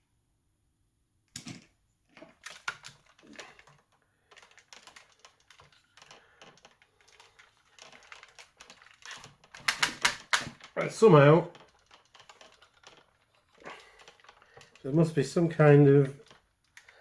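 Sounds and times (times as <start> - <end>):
plastic toy parts clicking: 2.2 - 17.0.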